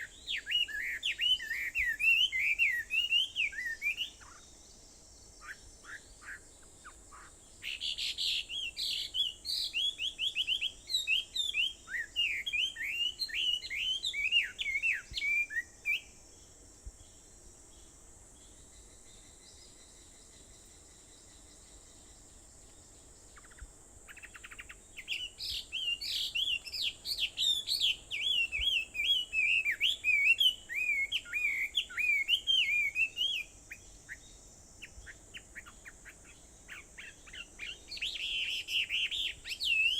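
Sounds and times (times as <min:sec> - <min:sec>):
faint high hiss: 0:00.0 - 0:39.9
songbird chirping: 0:00.0 - 0:39.9.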